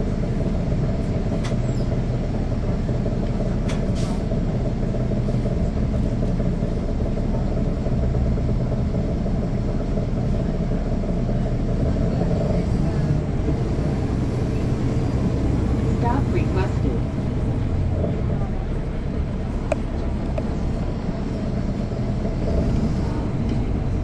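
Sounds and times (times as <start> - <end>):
diesel bus engine running: 0.0 - 24.0.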